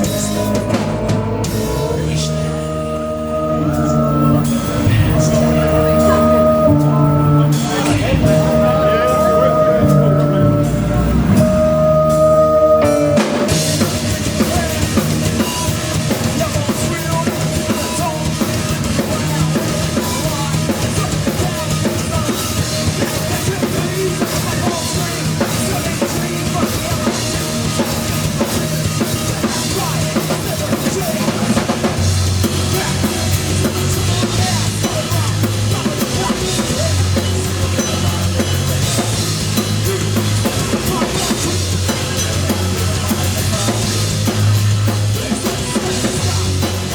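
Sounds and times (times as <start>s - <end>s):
bass guitar lines: 0.0s - 46.9s
heavy rock band playing live: 0.0s - 46.9s.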